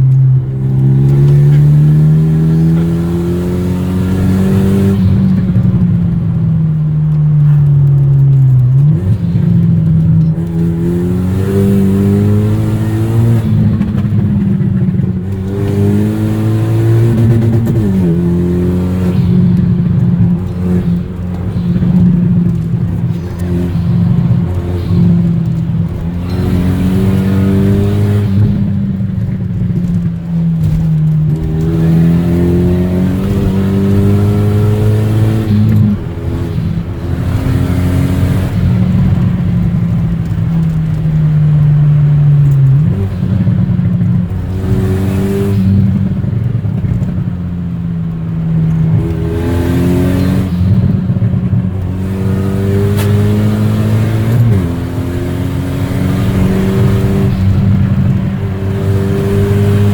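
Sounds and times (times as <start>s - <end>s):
loud car engine revving: 0.0s - 59.9s.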